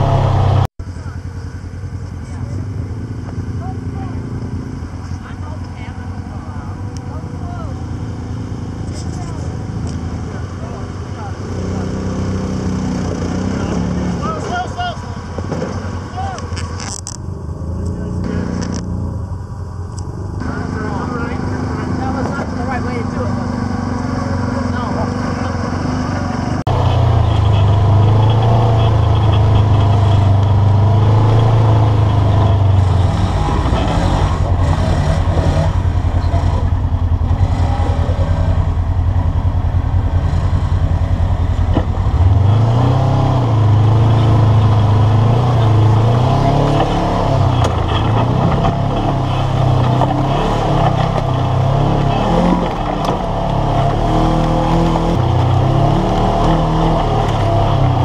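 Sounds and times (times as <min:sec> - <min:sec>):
utv engine running: 0:00.0 - 0:58.0.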